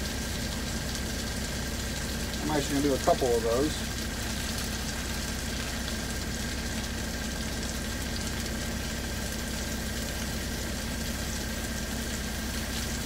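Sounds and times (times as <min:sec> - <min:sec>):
potatoes frying in a pan: 0:00.0 - 0:13.0
truck engine idling: 0:00.0 - 0:13.0.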